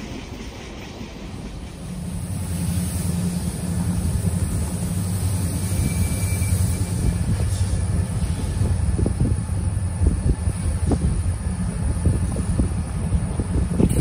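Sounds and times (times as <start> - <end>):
diesel locomotive engines droning: 0.0 - 14.0.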